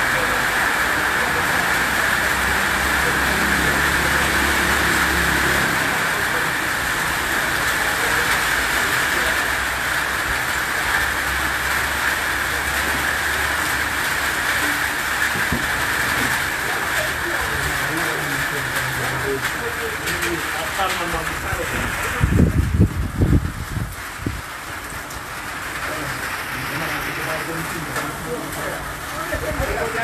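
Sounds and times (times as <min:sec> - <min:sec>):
rain on metal roof: 0:00.0 - 0:30.0.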